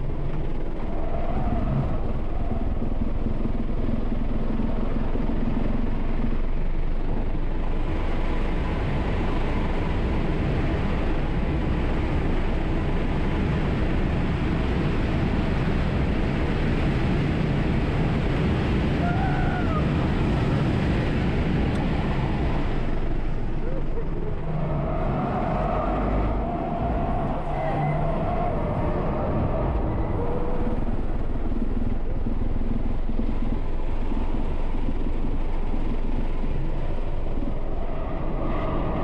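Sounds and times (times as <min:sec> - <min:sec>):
wind and tyre noise in car cabin: 0:00.0 - 0:39.0.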